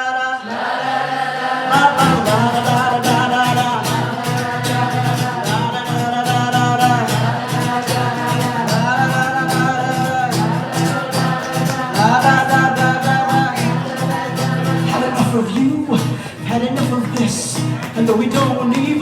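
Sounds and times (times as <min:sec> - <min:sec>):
wordless singing: 0:00.0 - 0:19.0
acoustic guitar strumming: 0:00.6 - 0:19.0.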